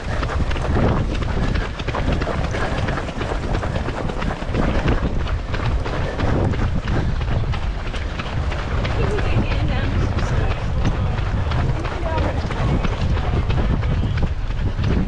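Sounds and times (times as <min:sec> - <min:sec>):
runners' footsteps on tarmac: 0:00.0 - 0:15.0
wind noise on microphone: 0:00.0 - 0:15.0.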